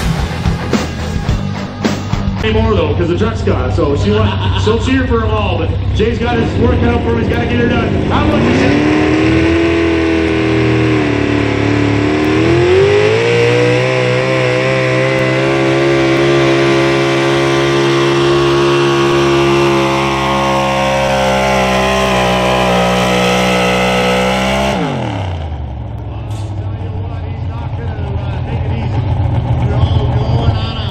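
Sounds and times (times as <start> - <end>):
truck engine at high revs: 0.0 - 30.9.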